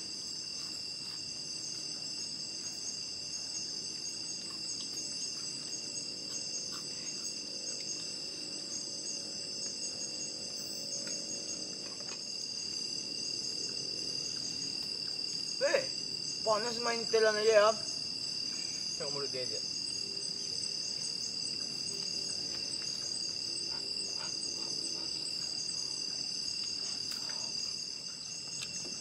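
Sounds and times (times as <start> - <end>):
forest insects shrilling: 0.0 - 29.0.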